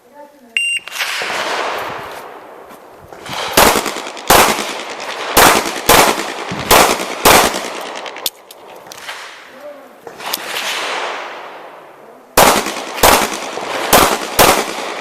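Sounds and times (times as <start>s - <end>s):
pistol shots with echo: 0.9s - 2.6s, 3.2s - 9.5s, 10.1s - 15.0s.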